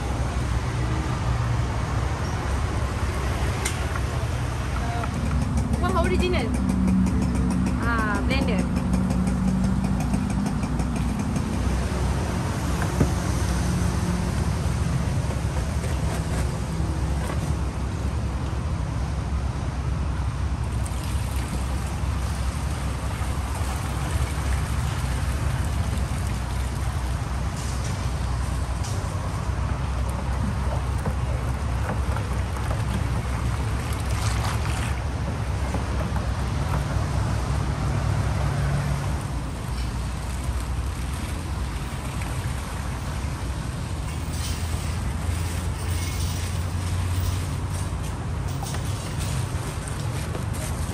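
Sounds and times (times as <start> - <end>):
low engine hum: 0.0 - 50.9
traffic rumble with tyre hiss: 0.0 - 50.9.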